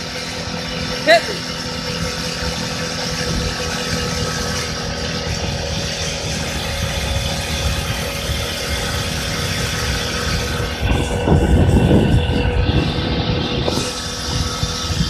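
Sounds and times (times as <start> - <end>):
moped engine running: 0.0 - 15.0
wind noise on microphone: 2.0 - 15.0.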